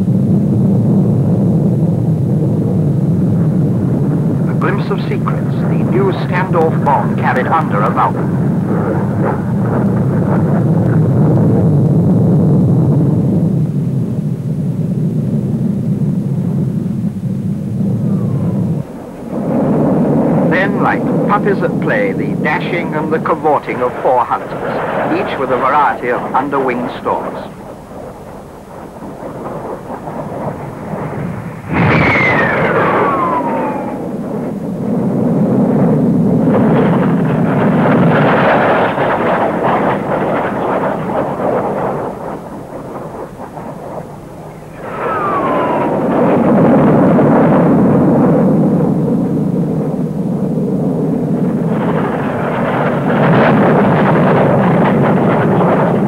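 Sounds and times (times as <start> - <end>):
jet aircraft roar passing overhead: 0.0 - 56.0.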